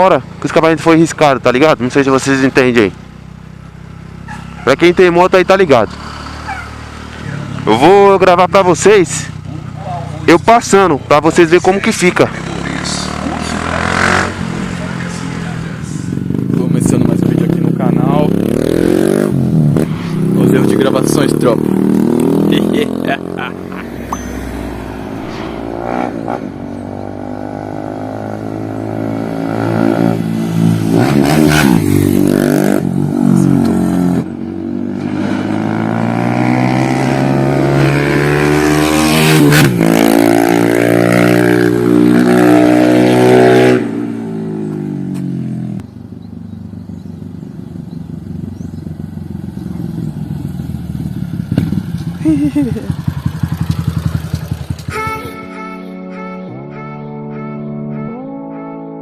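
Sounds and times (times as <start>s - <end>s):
motorcycle accelerating hard: 0.0s - 55.1s.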